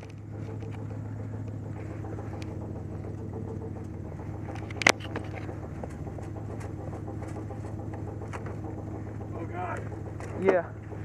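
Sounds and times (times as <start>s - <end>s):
small rattles: 0.0s - 11.0s
truck engine humming: 0.0s - 11.0s.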